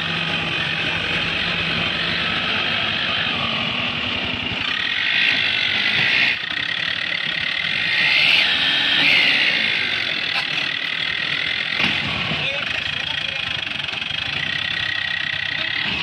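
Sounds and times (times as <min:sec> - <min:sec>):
tractor diesel engine working hard: 0:00.0 - 0:16.0.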